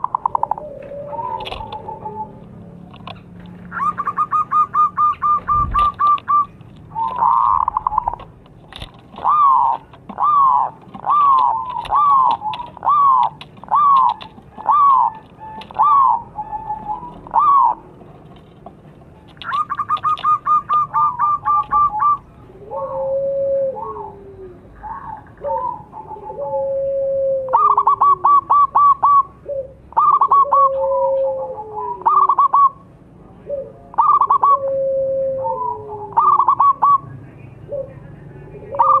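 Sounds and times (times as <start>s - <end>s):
dove cooing: 0.0s - 39.0s.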